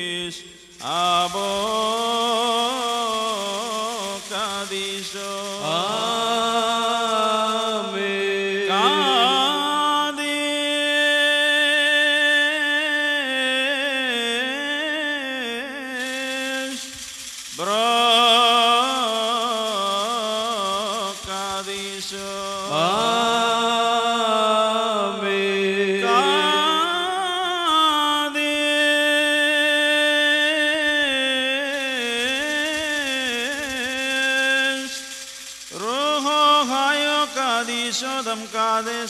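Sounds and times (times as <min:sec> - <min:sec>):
person chanting melody: 0:00.0 - 0:16.9, 0:17.6 - 0:35.0, 0:35.8 - 0:39.0.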